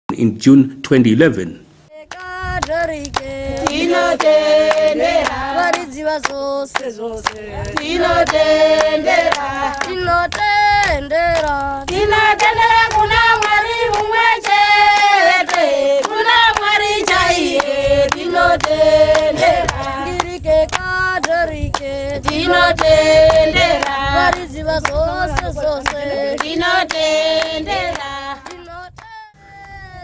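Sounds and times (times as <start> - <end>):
group of voices singing: 2.0 - 30.0
hand-clapping: 2.1 - 29.8.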